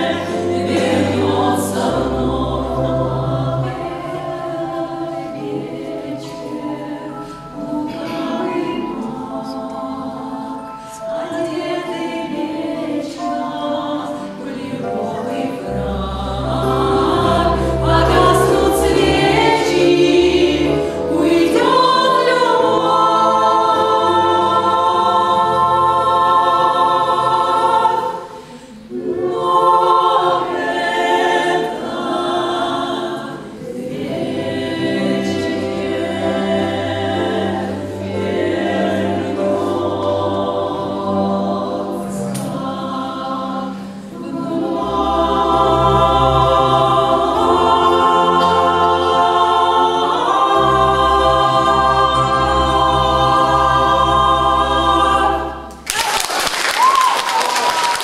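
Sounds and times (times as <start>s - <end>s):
women singing in harmony: 0.0s - 55.8s.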